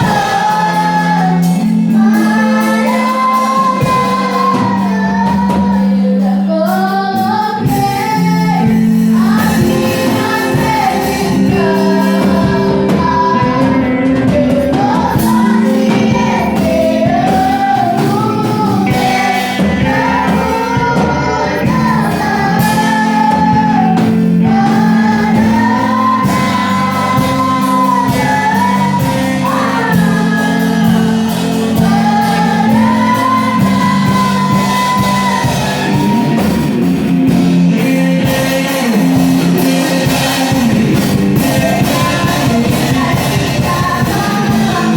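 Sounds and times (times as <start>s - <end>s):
instrumental accompaniment: 0.0s - 44.9s
women singing worship song: 0.0s - 44.9s.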